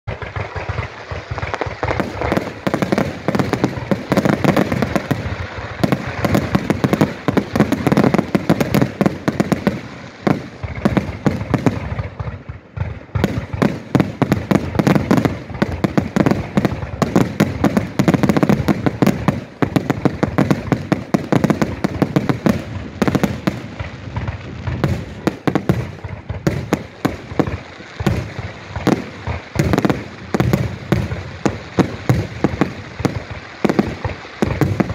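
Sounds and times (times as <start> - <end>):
fireworks booms and cracks: 0.1 - 34.9.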